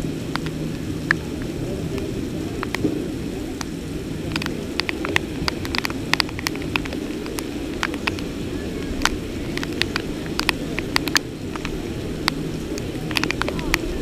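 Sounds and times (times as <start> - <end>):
heavy rain rushing: 0.0 - 14.0
raindrops ticking near microphone: 0.0 - 14.0.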